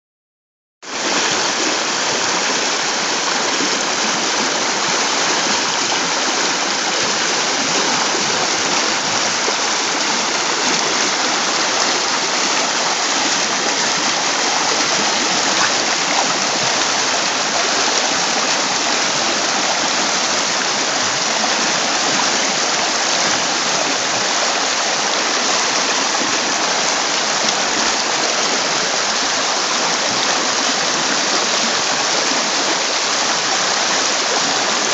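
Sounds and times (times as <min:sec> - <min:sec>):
river water rushing over rocks: 0:00.9 - 0:34.9.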